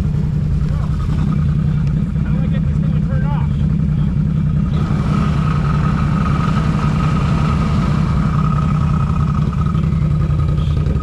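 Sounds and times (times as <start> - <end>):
engines idling: 0.0 - 11.0.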